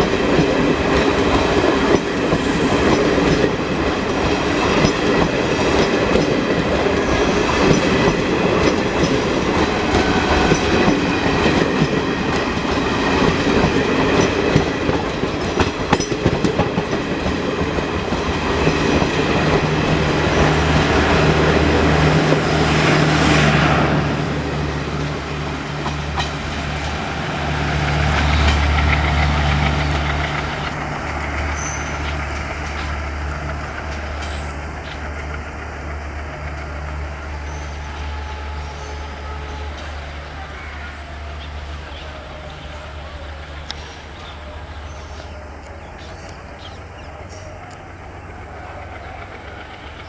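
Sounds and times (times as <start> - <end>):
train rumbling drone: 0.0 - 50.0.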